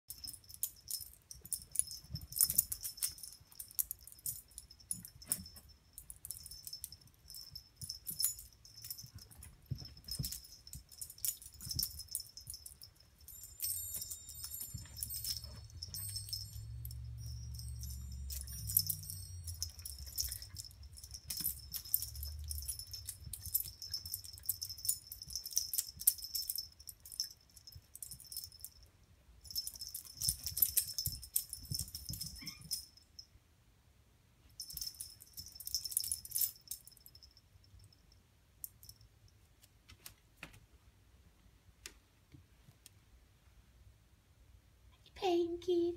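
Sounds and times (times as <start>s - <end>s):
pet collar jingling: 0.0s - 33.2s, 34.6s - 39.0s.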